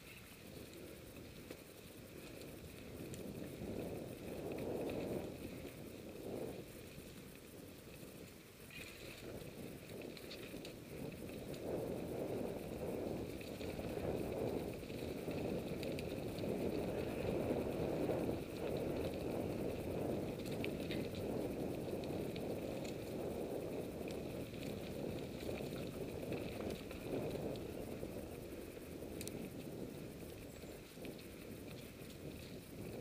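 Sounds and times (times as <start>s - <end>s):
bike clicks and rattles: 0.0s - 33.0s
bike tyres rumbling on dirt: 0.0s - 33.0s.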